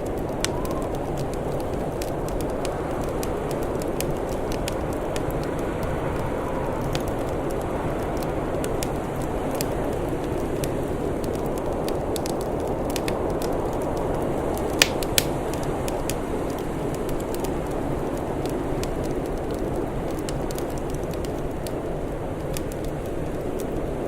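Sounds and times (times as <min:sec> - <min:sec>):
loud pops of fire: 0:00.0 - 0:23.8
wood fire crackling: 0:00.0 - 0:24.0.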